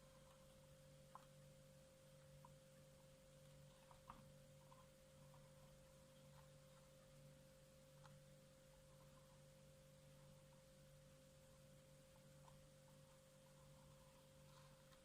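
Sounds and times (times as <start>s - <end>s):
faint electrical hum: 0.0s - 15.0s
faint ticks: 0.0s - 15.0s.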